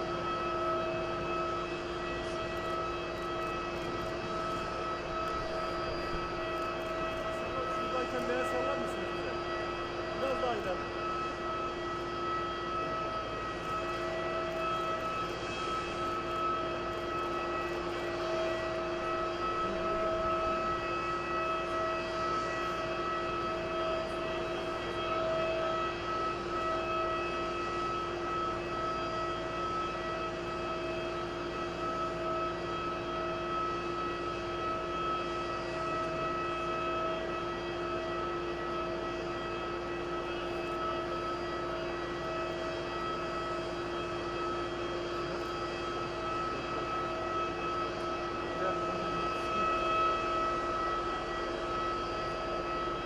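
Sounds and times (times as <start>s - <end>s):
aircraft engines whining: 0.0s - 53.0s.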